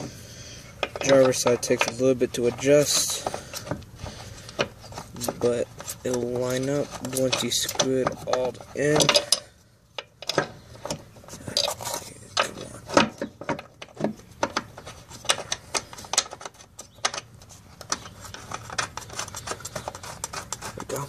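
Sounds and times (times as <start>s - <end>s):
metal bolts clicking and clinking: 0.8s - 3.8s, 4.6s - 19.0s.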